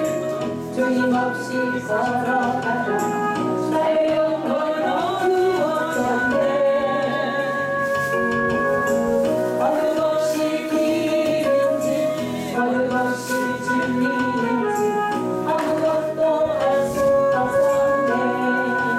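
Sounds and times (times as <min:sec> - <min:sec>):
instrumental accompaniment with held chords: 0:00.0 - 0:18.9
woman singing into a microphone: 0:00.0 - 0:18.9.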